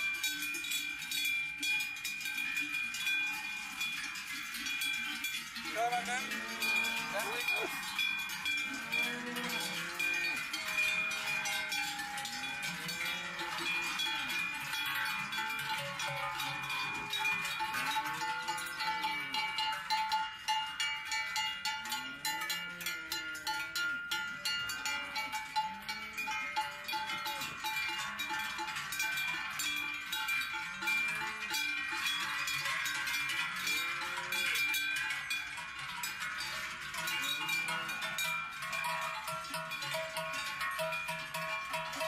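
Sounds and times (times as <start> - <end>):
cowbells clanking: 0.0 - 42.0.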